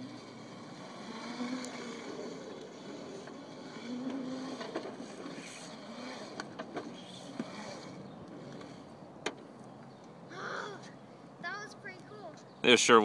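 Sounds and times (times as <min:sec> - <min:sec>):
electric cart motor hum: 0:00.0 - 0:11.9
wheels rolling on asphalt: 0:00.0 - 0:13.0.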